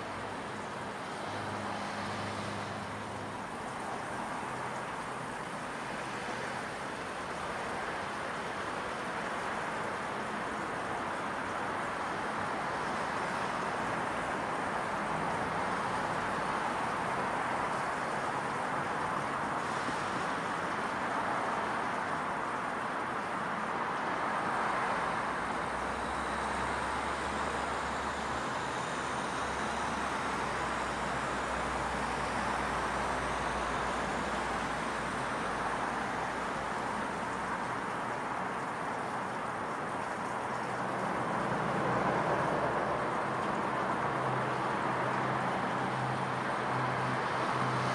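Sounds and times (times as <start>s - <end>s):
distant road traffic hum: 0.0s - 47.9s.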